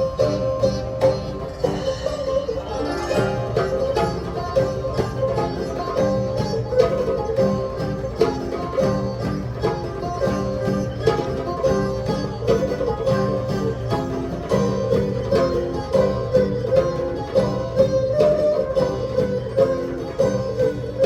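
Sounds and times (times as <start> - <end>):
bowed string melody: 0.0 - 21.0
hand drum beat: 0.0 - 21.0
plucked string notes: 0.0 - 21.0.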